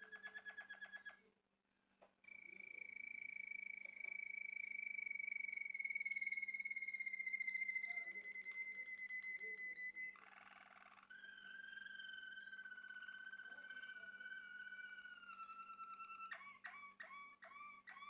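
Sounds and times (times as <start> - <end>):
canary singing: 0.0 - 1.3, 2.3 - 18.0.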